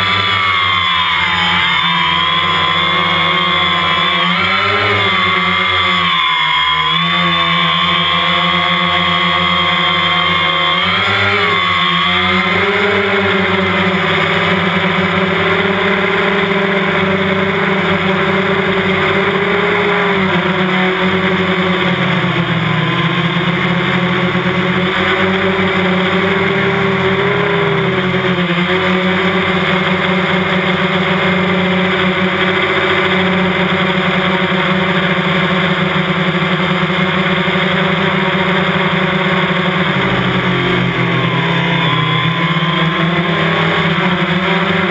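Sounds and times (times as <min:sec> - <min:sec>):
drone propellers whining: 0:00.0 - 0:44.9.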